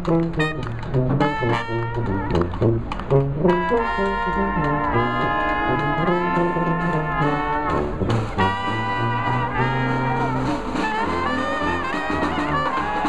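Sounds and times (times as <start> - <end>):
jazz brass band playing: 0.0 - 13.0.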